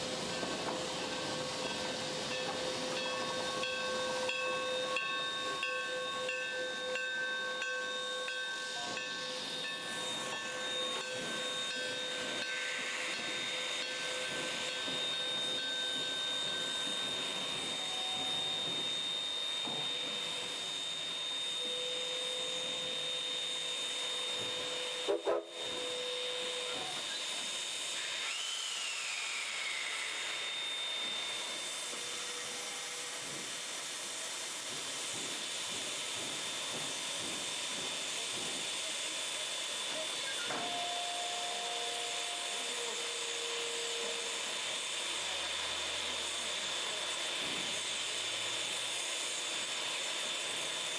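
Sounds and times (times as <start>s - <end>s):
steam locomotive hissing: 0.0s - 50.9s.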